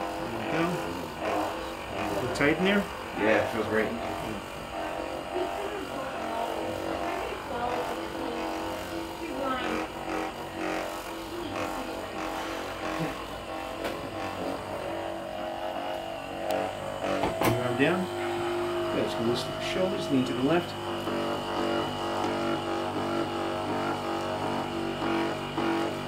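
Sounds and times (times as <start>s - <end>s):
massage gun motor drone: 0.0s - 26.0s.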